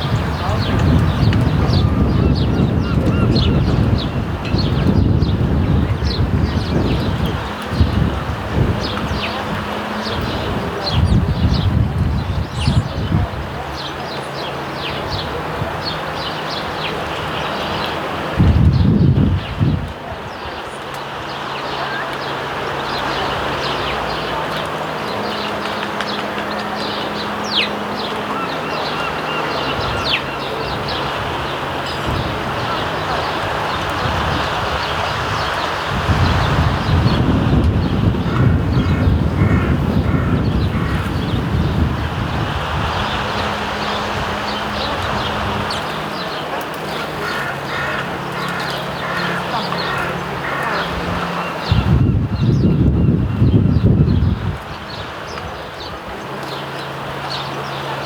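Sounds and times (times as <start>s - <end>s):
outdoor background noise: 0.0s - 58.0s
sparrows chirping: 0.0s - 58.0s.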